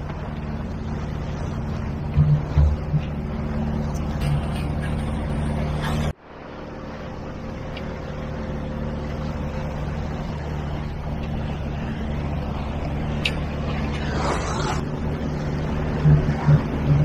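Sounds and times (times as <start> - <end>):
outboard motor running: 0.0 - 17.0
water noise: 0.0 - 17.0
wind: 0.0 - 17.0.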